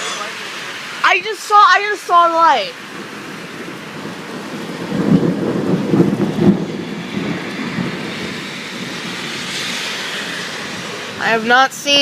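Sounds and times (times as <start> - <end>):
heavy rain hissing: 0.0 - 12.0
thunder rumbling: 1.1 - 12.0.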